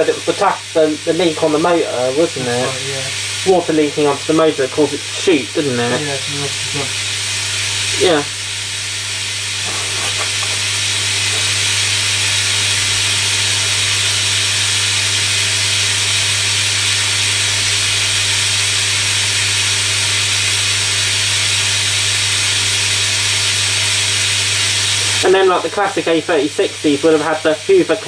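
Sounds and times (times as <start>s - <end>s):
water running into washing machine: 0.0s - 28.0s.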